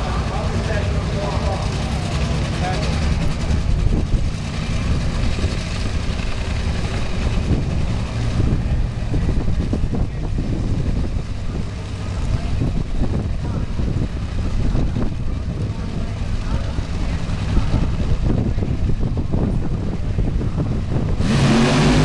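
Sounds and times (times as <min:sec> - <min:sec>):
race car engines rumbling: 0:00.0 - 0:22.0
wind buffeting microphone: 0:00.0 - 0:22.0.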